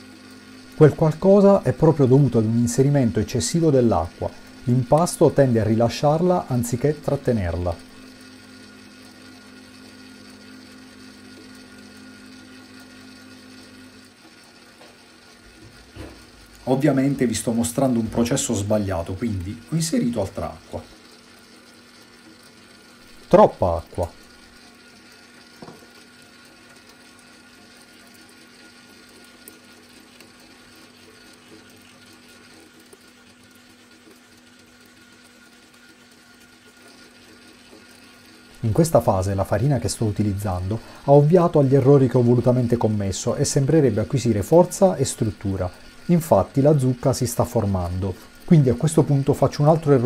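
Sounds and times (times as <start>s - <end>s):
dough mixer motor hum: 0.0s - 50.0s.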